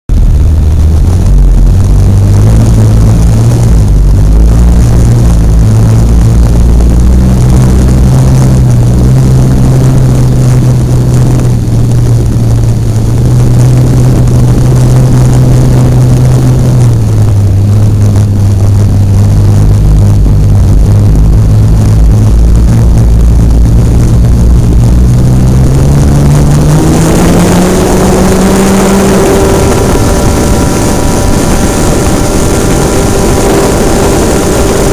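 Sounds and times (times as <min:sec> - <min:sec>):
model airplane engine and propeller: 0:00.1 - 0:34.9.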